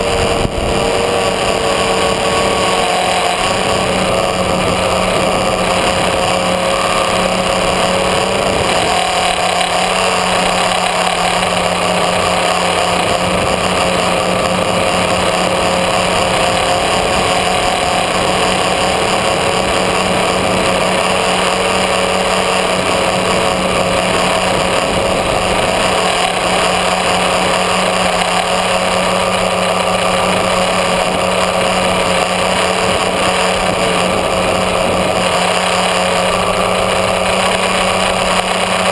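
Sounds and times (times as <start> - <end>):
drone motors buzzing: 0.0 - 38.9.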